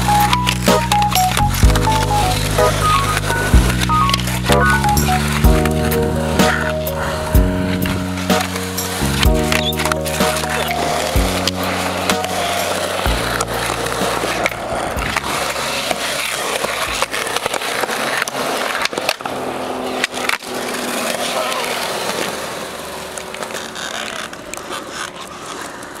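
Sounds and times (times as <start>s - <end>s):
skateboard clacking on ground: 0.0s - 26.0s
skateboard wheels rolling on concrete: 0.0s - 26.0s.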